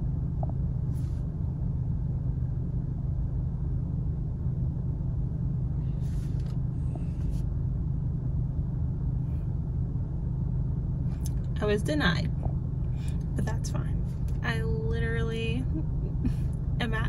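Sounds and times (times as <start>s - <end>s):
low hum and rumble inside car: 0.0s - 17.0s.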